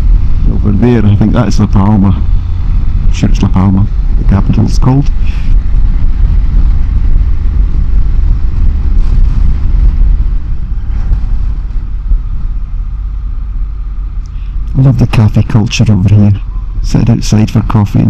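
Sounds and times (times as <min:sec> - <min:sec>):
wind buffeting microphone: 0:00.0 - 0:16.9
motorcycle engine rumble: 0:00.0 - 0:18.0.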